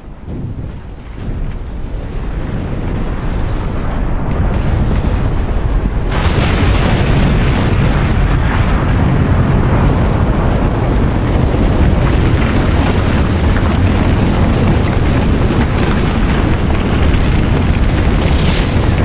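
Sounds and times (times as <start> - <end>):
deep volcanic rumble: 0.0 - 19.0.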